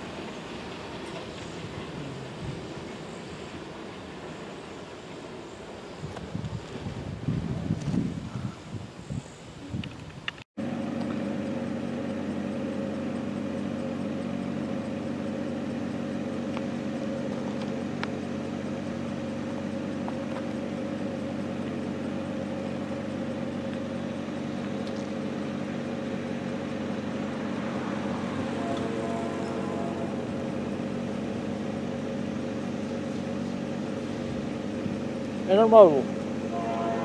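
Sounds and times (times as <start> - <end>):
diesel engine droning: 0.0 - 6.9, 10.6 - 37.0.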